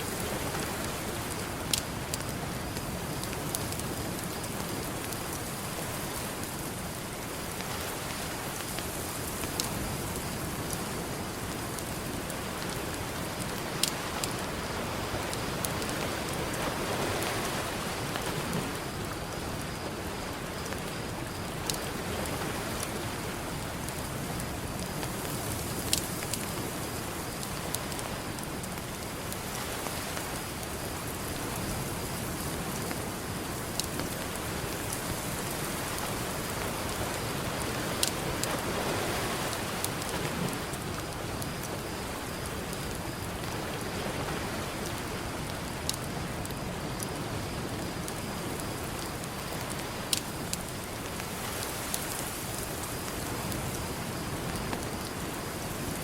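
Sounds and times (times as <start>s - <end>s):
campfire crackling and popping: 0.1s - 16.6s, 17.2s - 56.0s.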